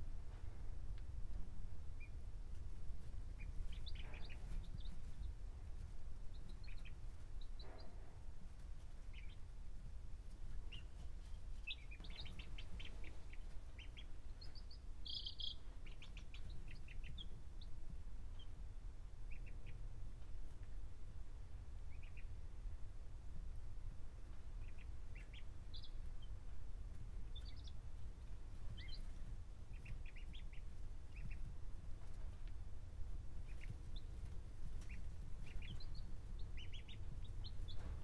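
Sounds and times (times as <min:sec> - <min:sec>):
steady low rumble: 0:00.0 - 0:38.0
chicks and ducklings peeping: 0:00.2 - 0:38.0.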